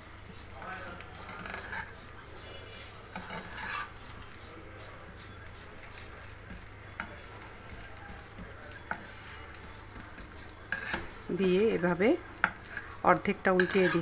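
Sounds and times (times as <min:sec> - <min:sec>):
dosa sizzling in pan: 0:00.0 - 0:14.0
spatula scraping pan: 0:00.2 - 0:14.0
spatula tapping pan: 0:01.2 - 0:04.2, 0:05.1 - 0:14.0.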